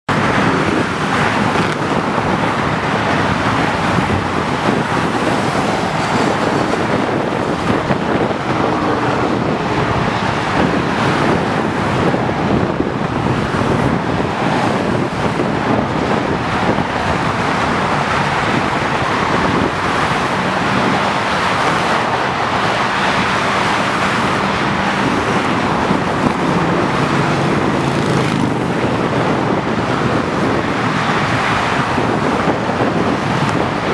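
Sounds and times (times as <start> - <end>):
freeway traffic rush: 0.1 - 33.9.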